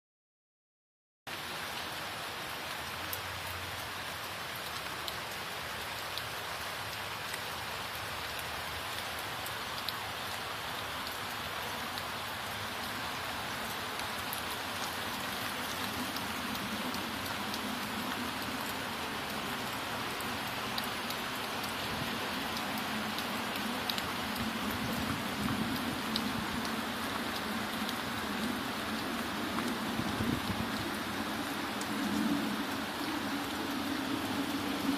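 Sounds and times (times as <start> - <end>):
steady rain falling: 1.3 - 34.9.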